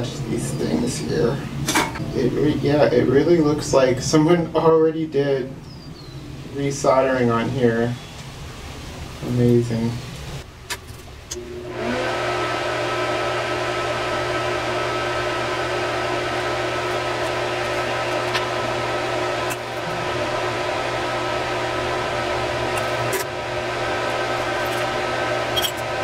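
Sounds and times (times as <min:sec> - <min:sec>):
hot-air station fan blowing: 0:00.0 - 0:26.0.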